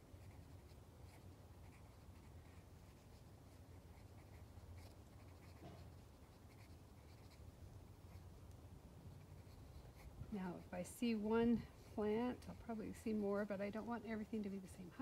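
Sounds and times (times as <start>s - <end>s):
pencil scratching on paper: 0.2s - 7.4s, 9.1s - 14.0s.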